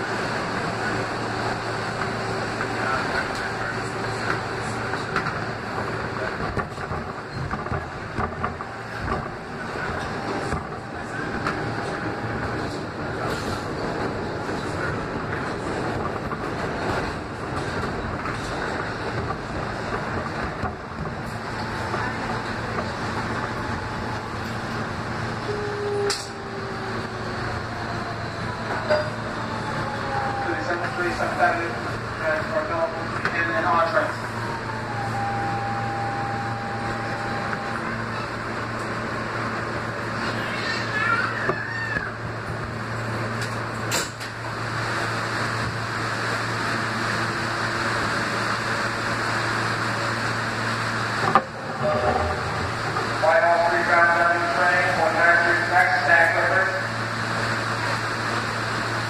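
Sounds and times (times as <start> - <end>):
subway train rumbling in tunnel: 0.0 - 59.0.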